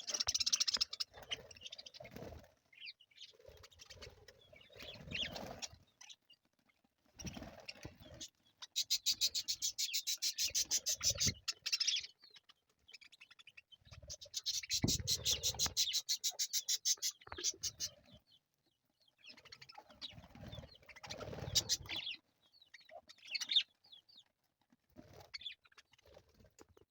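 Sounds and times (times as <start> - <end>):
budgerigars chirping: 0.0 - 6.2, 7.2 - 18.3, 19.2 - 24.2.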